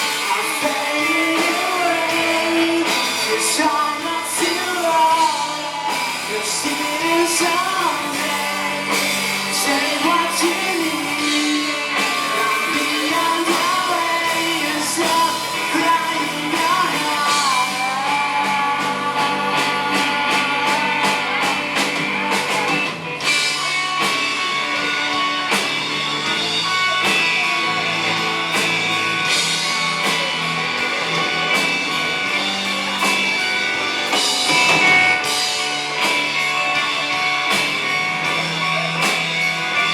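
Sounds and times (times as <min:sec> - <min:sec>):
person singing: 0:00.0 - 0:39.9
rock band playing: 0:00.0 - 0:39.9.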